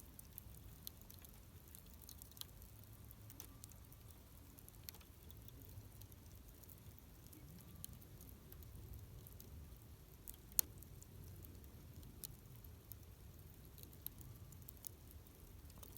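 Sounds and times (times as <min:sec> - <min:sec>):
campfire crackling: 0:00.0 - 0:15.9.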